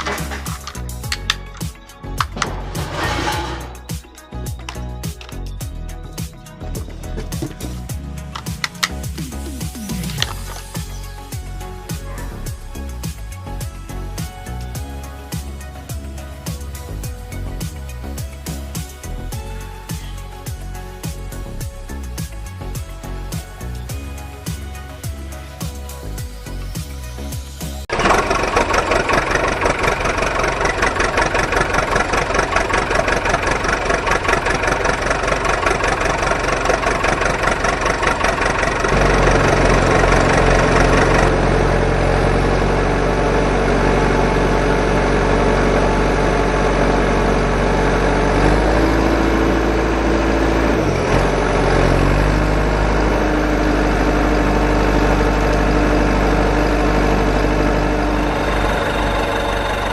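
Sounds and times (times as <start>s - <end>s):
engine chugging: 0.0s - 26.6s, 27.9s - 59.9s.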